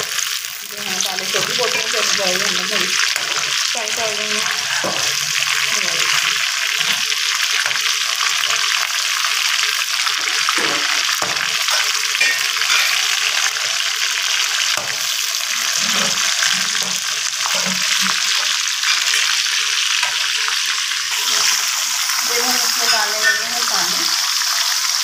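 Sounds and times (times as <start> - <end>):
food deep-frying in oil: 0.0 - 25.0.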